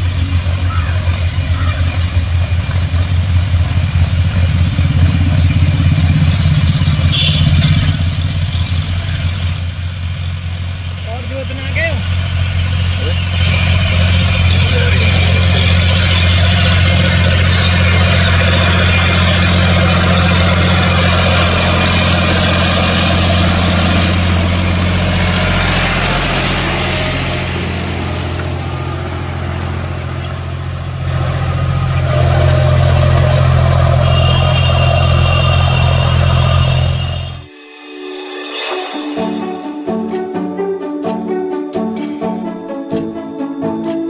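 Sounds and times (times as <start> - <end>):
tractor diesel engine under load: 0.0 - 37.5.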